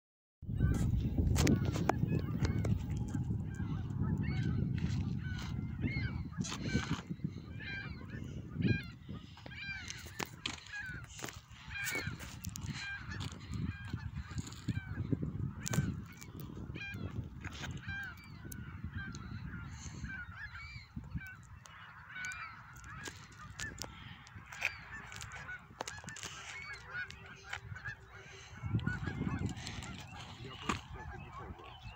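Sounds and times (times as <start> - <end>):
geese honking: 0.6 - 31.9.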